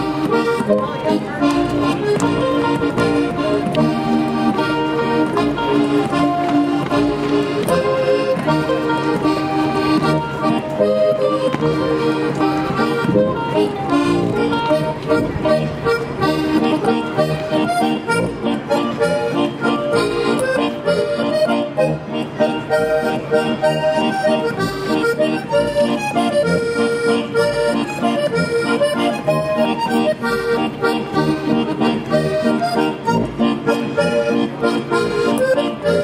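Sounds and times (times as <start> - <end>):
accordion folk dance music: 0.0 - 36.0.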